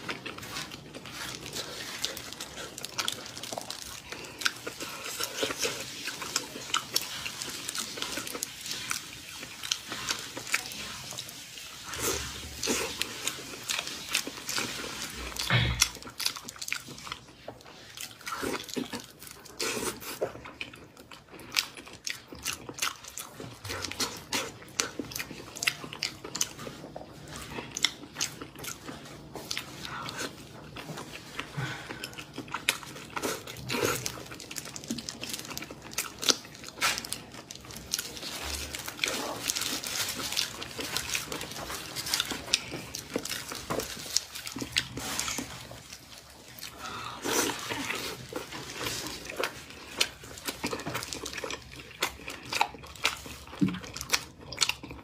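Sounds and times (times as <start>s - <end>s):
person chewing meat: 0.0s - 55.0s.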